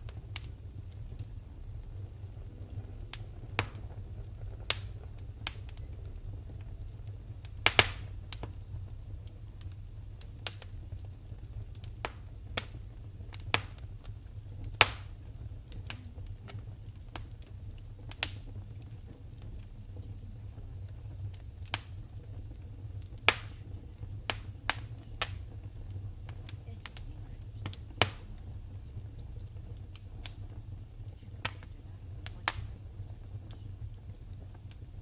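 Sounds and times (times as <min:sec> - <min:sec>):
low rumble: 0:00.0 - 0:35.0
wood fire crackling: 0:00.0 - 0:35.0.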